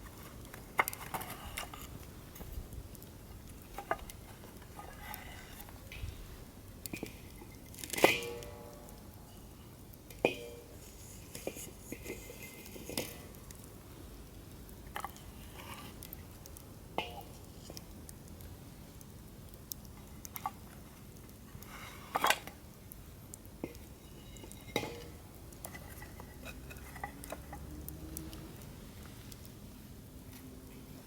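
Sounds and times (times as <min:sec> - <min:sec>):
fire pops and snaps: 0:00.0 - 0:09.2, 0:09.8 - 0:31.0
campfire crackling: 0:00.0 - 0:31.0.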